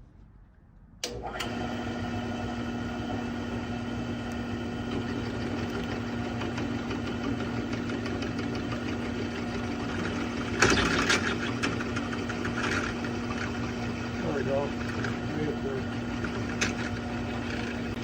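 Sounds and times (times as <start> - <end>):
drill press motor humming: 1.0 - 18.0.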